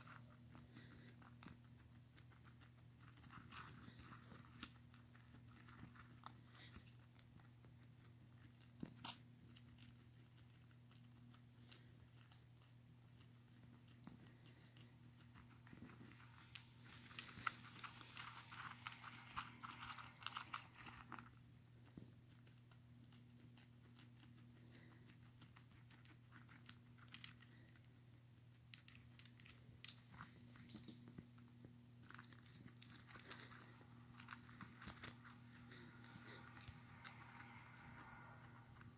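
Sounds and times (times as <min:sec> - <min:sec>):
guinea pig chewing food: 0:00.0 - 0:38.9.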